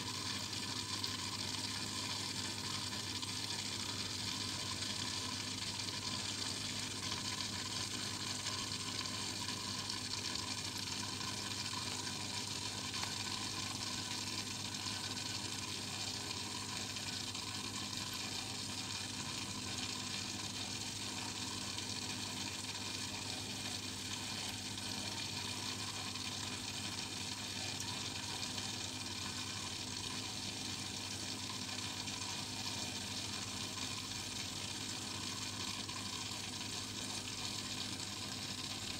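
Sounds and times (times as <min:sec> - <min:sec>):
aquarium aeration bubbling: 0:00.0 - 0:38.9.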